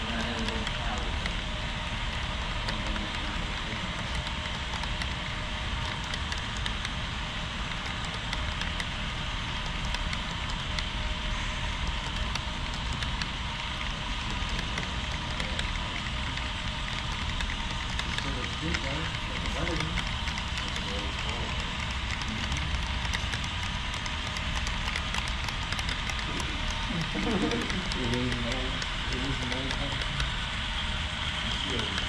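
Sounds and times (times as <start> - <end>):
model train wheels clicking on rail: 0.0 - 1.5, 2.1 - 30.8.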